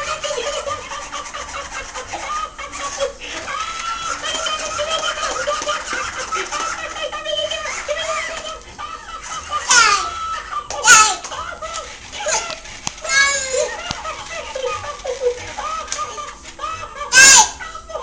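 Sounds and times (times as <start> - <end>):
toy laughing in electronic voice: 0.0 - 18.0.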